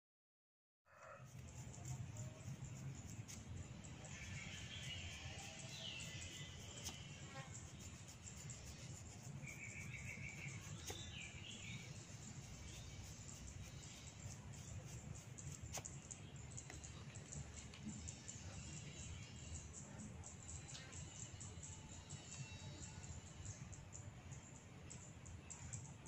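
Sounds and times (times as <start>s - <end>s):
birds chirping and trilling: 1.0s - 26.0s
low background noise: 1.2s - 26.0s.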